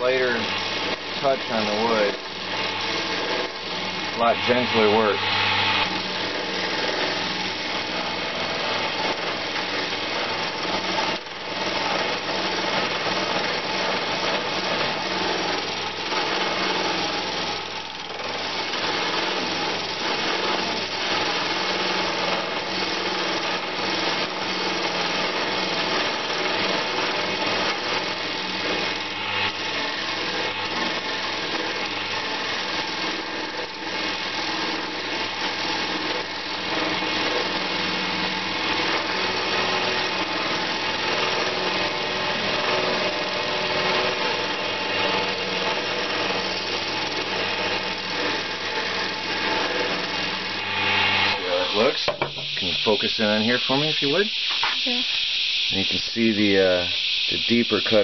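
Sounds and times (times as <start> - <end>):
turning tool rasping: 0.0 - 55.5
lathe motor humming: 0.0 - 58.0.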